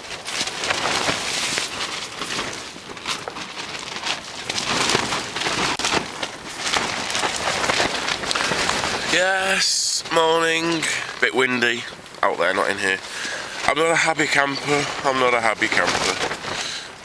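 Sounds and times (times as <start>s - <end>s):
rain on tent fabric: 0.0s - 17.0s
wind shaking tent: 0.0s - 17.0s.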